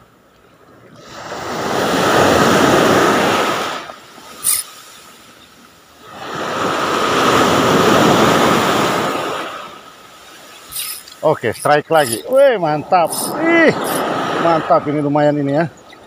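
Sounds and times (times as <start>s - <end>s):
sea waves breaking on beach: 0.6s - 16.0s.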